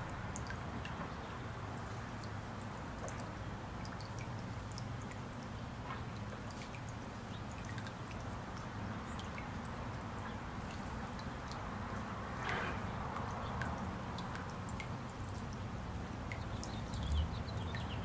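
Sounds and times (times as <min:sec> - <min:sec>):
fountain water trickling and splashing: 0:00.0 - 0:18.0.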